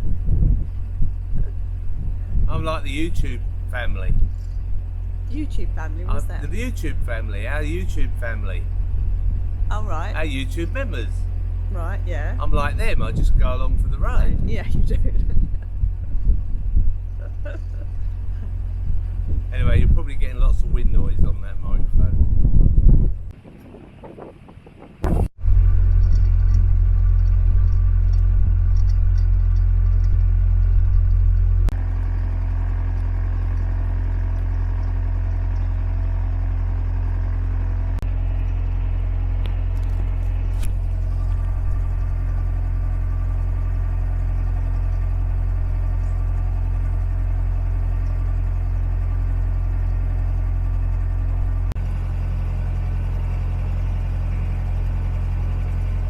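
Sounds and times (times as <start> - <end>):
boat engine low rumble: 0.0 - 56.0.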